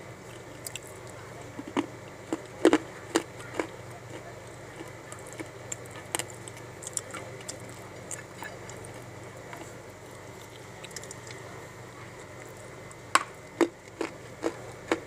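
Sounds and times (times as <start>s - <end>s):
crunchy chewing: 0.0s - 15.0s
low background hum: 0.0s - 15.0s.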